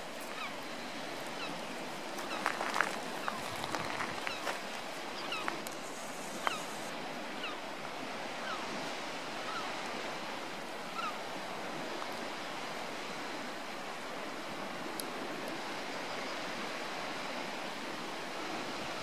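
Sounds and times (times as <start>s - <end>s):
wind and water rushing: 0.0s - 19.0s.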